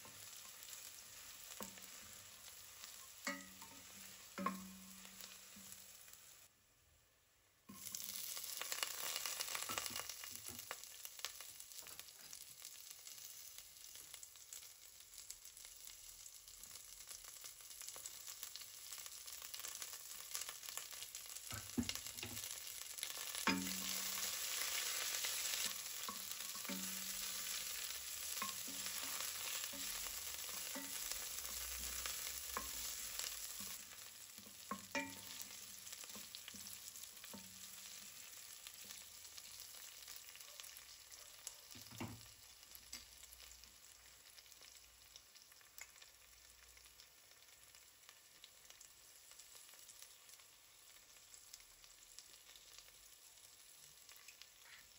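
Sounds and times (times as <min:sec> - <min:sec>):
onions sizzling in hot oil: 0:00.0 - 0:06.6, 0:07.6 - 0:54.9.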